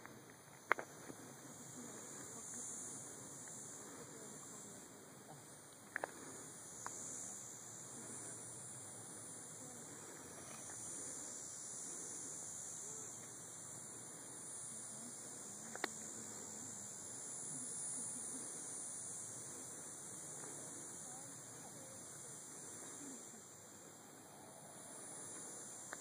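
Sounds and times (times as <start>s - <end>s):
high-pitched hiss: 0.0s - 26.0s
low background noise: 0.0s - 26.0s.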